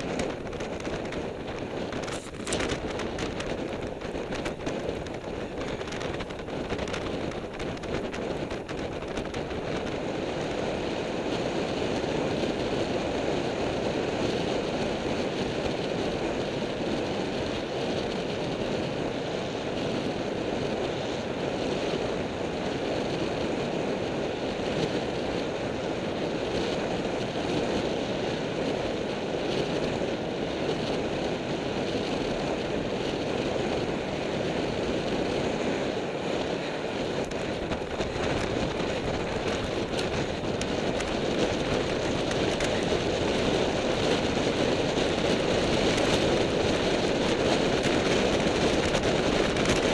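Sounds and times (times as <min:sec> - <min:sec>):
wind rushing over microphone: 0:00.0 - 0:49.9.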